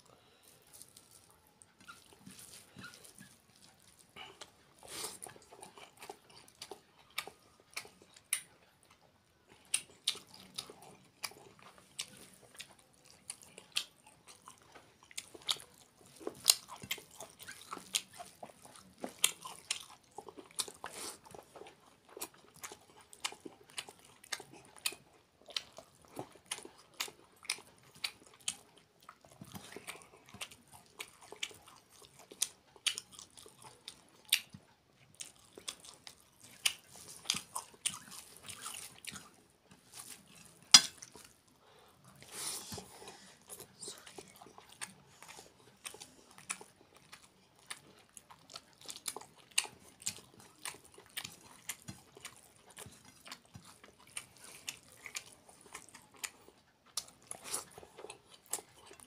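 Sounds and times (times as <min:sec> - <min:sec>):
wet chewing and lip-smacking: 0:00.2 - 0:59.0.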